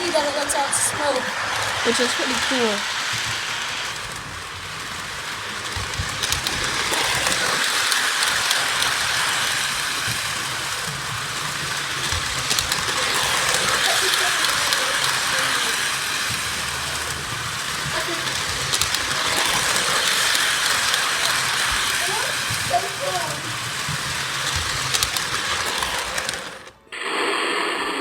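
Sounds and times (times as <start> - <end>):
toy electric train whirring: 0.0 - 28.0.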